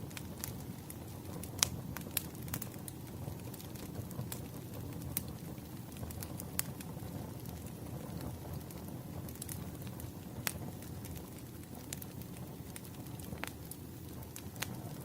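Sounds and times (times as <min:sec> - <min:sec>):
firewood burning and crackling: 0:00.0 - 0:15.0.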